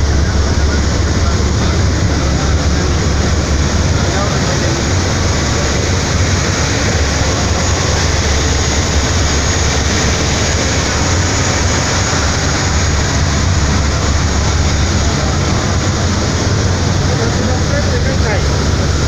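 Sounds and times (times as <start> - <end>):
ferry engines droning: 0.0 - 19.0
rushing water noise: 0.0 - 19.0.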